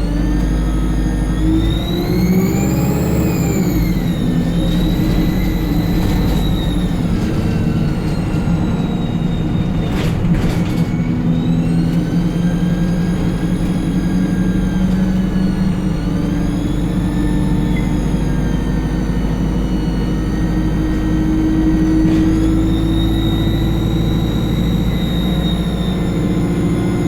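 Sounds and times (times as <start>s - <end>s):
bus diesel engine drone: 0.0s - 27.0s
high-pitched turbocharger whistle: 1.2s - 9.8s, 11.3s - 27.0s.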